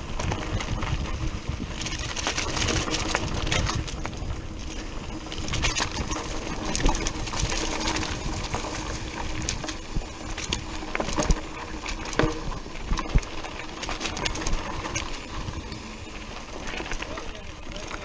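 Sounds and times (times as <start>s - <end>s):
mountain bike rattling: 0.0s - 18.0s
tyres crunching over stones: 0.0s - 18.0s
wind rumbling on microphone: 0.0s - 18.0s
bike knocking on rocks: 0.1s - 15.9s.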